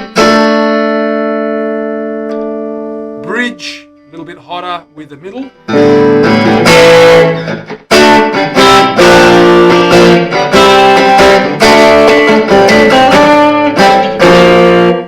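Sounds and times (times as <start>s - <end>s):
electric guitar strummed chords: 0.0s - 15.0s.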